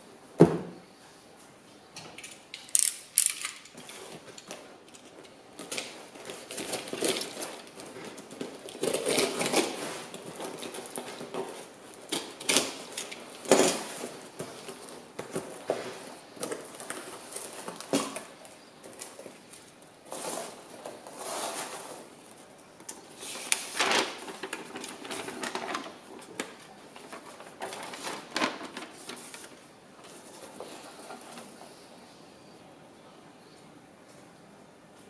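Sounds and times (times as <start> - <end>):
paper crinkling: 2.8 - 31.6.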